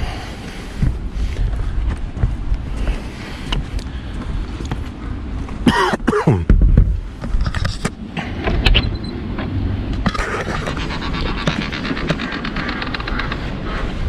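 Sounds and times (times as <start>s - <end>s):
wind rumbling on microphone: 0.0s - 5.6s, 6.4s - 14.0s.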